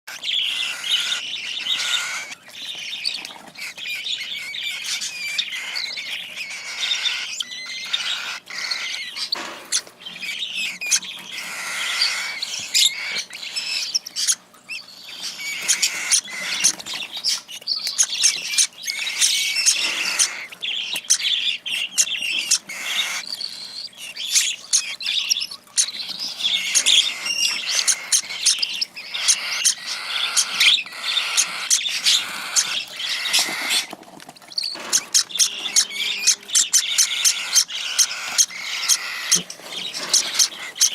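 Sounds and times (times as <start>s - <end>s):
chicks' begging calls: 0.0s - 40.9s.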